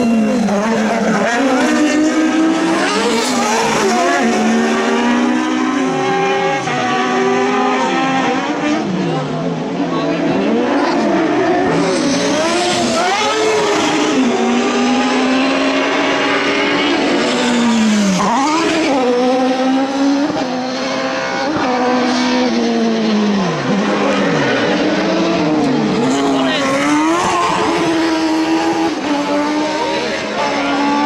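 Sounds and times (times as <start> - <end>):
racing buggy engines revving: 0.0 - 31.0.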